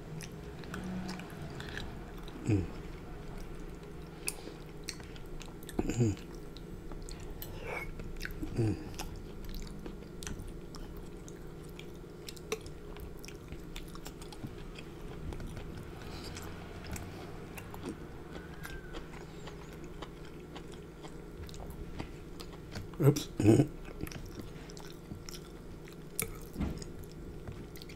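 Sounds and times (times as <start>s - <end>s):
low hum: 0.0s - 22.4s
wet chewing: 3.3s - 27.9s.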